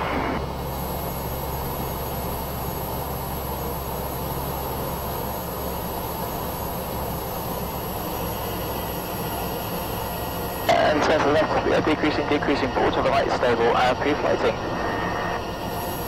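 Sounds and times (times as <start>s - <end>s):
high turbine whine: 0.0s - 16.0s
turboprop engine droning: 0.0s - 16.0s.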